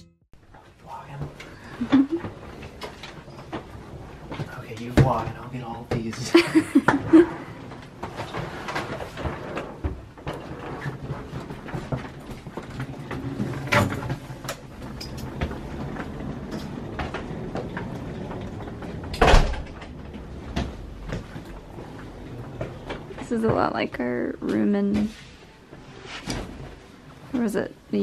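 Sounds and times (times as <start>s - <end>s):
suitcases wheeled across wooden floor: 0.5s - 28.0s.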